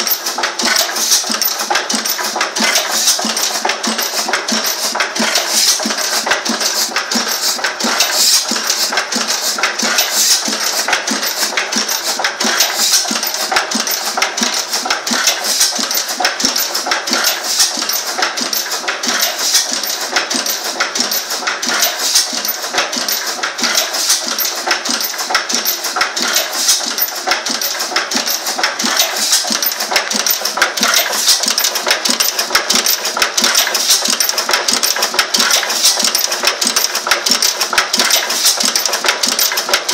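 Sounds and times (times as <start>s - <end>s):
stationary engine clattering: 0.0s - 39.9s.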